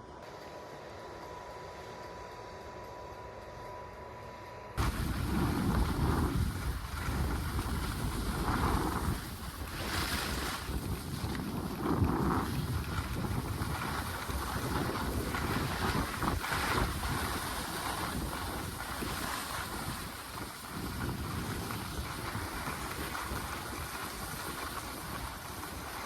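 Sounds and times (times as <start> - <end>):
wind buffeting microphone: 4.8 - 26.0.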